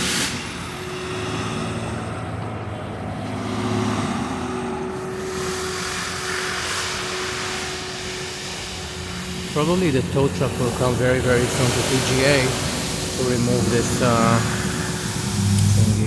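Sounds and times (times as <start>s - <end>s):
fire engine droning: 0.0s - 16.0s
road traffic: 0.0s - 16.0s.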